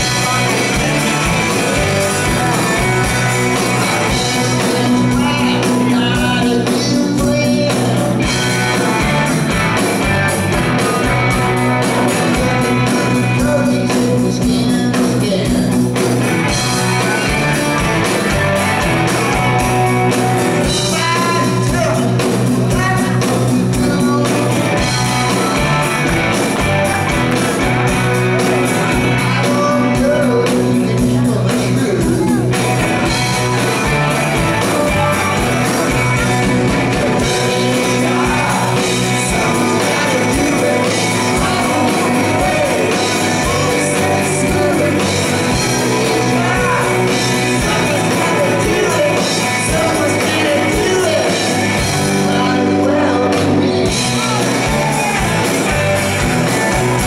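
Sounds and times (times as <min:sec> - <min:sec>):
lead vocal singing: 0:00.0 - 0:15.8, 0:16.4 - 0:26.3, 0:27.8 - 0:57.0
live rock band playing: 0:00.0 - 0:57.0.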